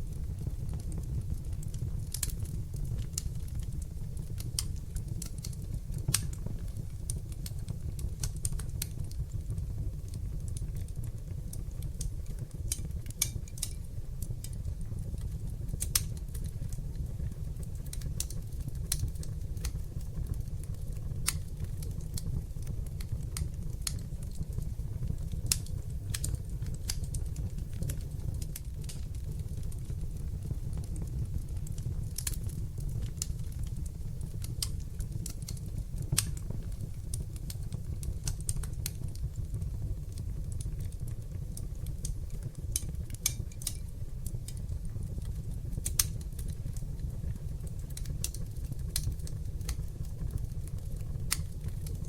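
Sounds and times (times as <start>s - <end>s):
fire crackling: 0.0s - 52.0s
loud fire pops: 0.2s - 13.8s, 15.3s - 52.0s.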